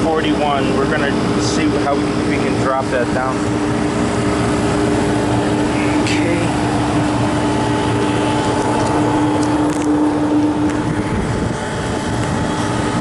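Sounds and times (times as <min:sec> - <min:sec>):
compressor hum: 0:00.0 - 0:13.0
loud rushing fan noise: 0:00.0 - 0:13.0.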